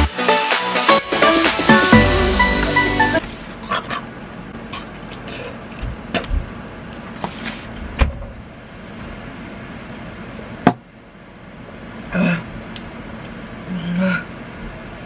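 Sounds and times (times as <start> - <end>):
steady background hum: 1.0 - 15.0.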